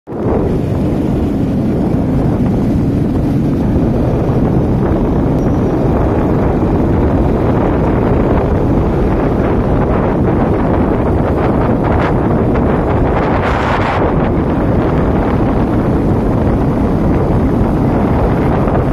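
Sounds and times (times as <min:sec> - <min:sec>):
wind buffeting microphone: 0:00.1 - 0:18.9.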